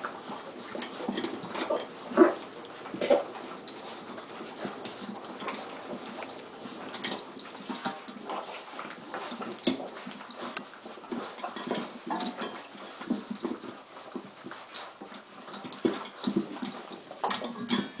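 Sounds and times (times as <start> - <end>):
puppies eating from a metal pan: 0.0 - 18.0.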